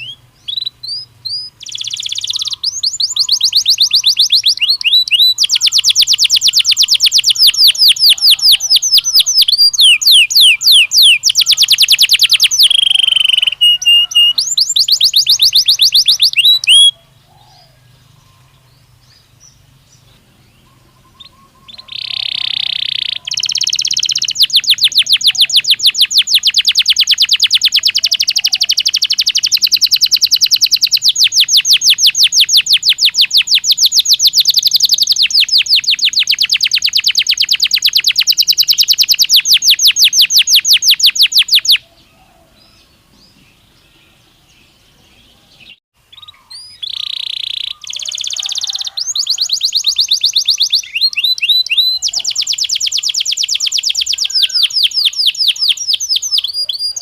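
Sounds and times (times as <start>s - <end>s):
canary singing rapid trills: 0.0s - 19.4s, 20.6s - 41.9s, 45.6s - 57.0s.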